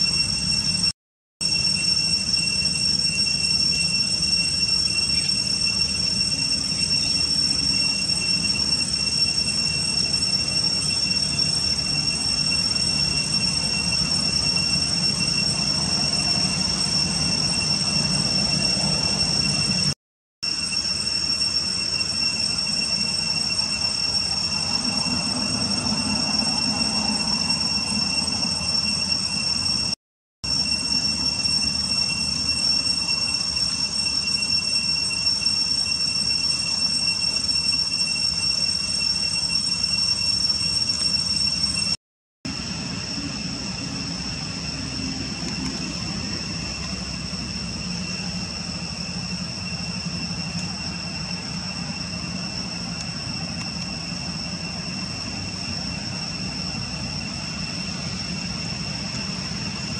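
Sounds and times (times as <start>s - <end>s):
high-pitched two-tone drone: 0.0s - 59.9s.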